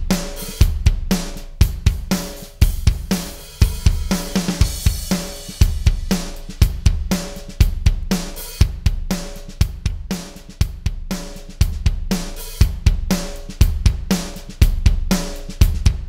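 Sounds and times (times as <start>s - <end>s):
drum kit steady beat: 0.0s - 16.0s.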